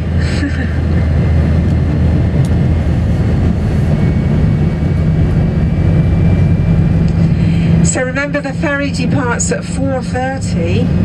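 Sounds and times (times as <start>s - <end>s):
large vehicle engine humming: 0.0s - 11.0s.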